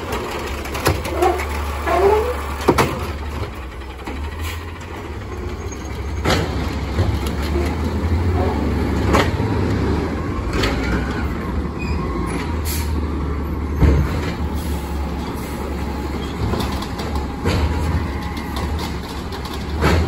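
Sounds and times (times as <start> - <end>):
garbage truck engines rumbling: 0.0 - 20.0.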